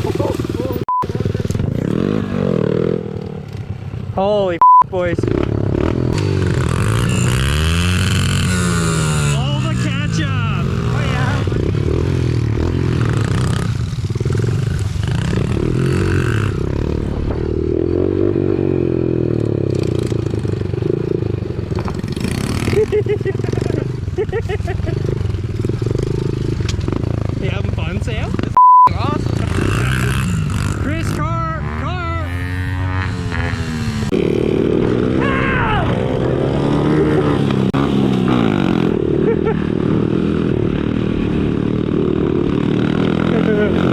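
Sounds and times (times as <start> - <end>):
pit bike engine revving: 0.0 - 4.2, 4.9 - 43.9.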